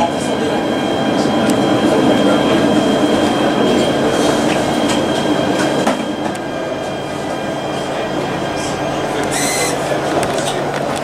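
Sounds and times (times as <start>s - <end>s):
high whine: 0.0s - 11.0s
tram rolling rumble: 0.0s - 11.0s.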